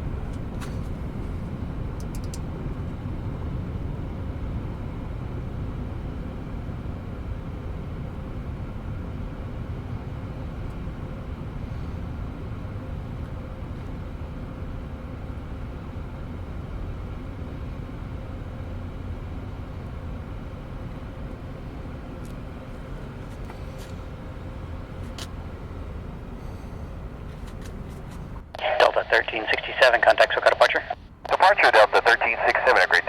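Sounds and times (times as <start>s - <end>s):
airliner jet engines rumbling: 0.0s - 33.0s.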